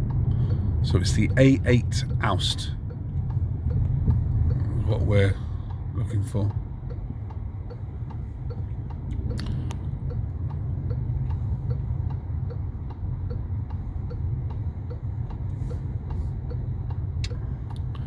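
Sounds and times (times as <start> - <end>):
engine and road noise rumble: 0.0 - 18.0
turn signal ticking: 0.0 - 18.0.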